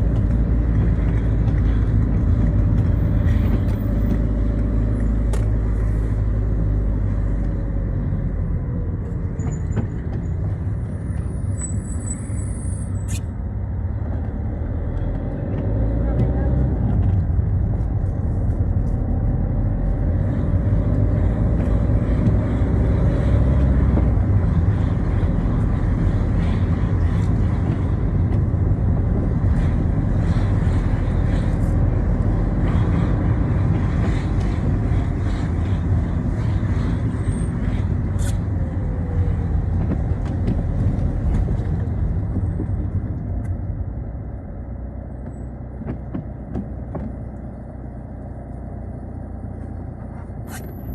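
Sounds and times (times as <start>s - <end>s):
car engine rumble: 0.0s - 50.9s
tyre noise on wet road: 0.0s - 50.9s.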